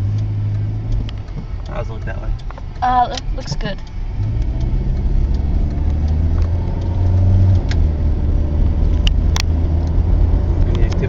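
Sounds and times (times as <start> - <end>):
car engine and road noise: 0.0 - 11.0
sharp clicks: 0.0 - 11.0.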